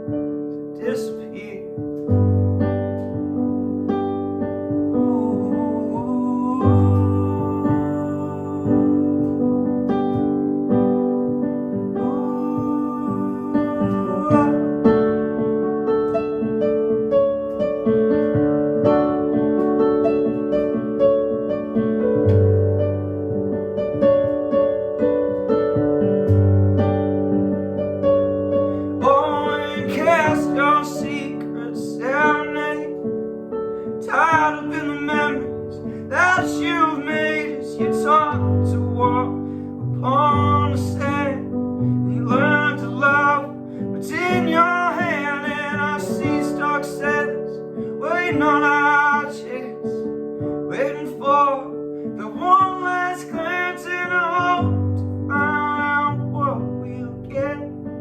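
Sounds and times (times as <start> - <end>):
bending melody line: 0.0 - 58.0.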